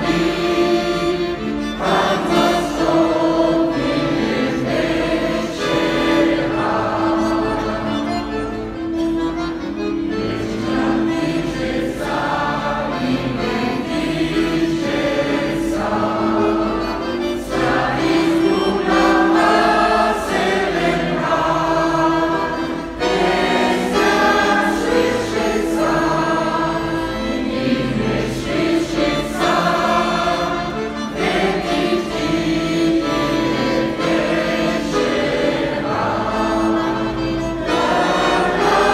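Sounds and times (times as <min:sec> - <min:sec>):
mixed choir singing: 0:00.0 - 0:08.4, 0:09.8 - 0:38.9.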